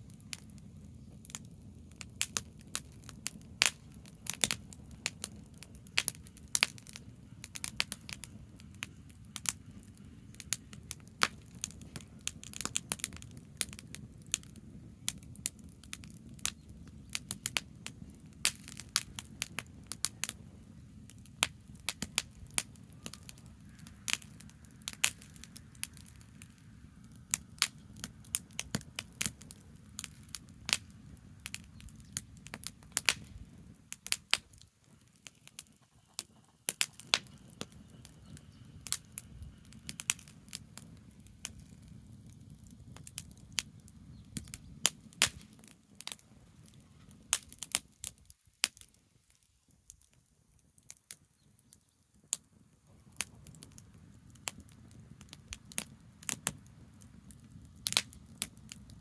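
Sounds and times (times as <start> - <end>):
sharp pops of fire: 0.0 - 49.0, 52.3 - 59.0
tree branches crackling in fire: 0.0 - 59.0.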